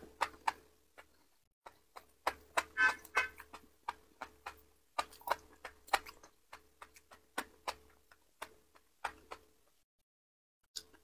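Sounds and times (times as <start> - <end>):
wet clicks and crunches: 0.0 - 9.7
chewing mushrooms: 0.0 - 9.8.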